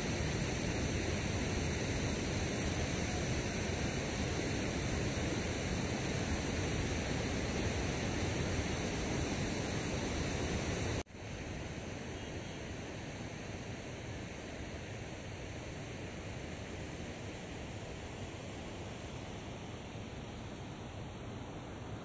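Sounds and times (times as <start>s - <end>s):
water rushing from spillway: 0.0s - 22.0s.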